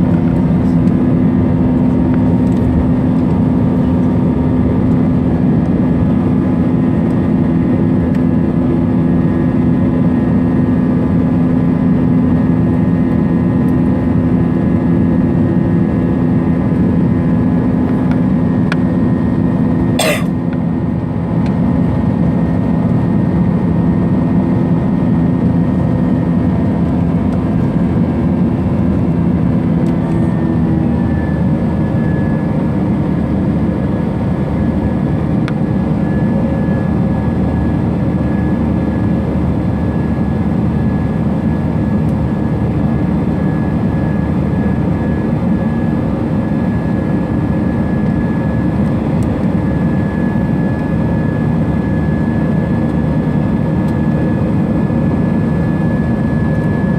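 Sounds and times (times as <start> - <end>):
jet engine rumble in cabin: 0.0 - 56.9.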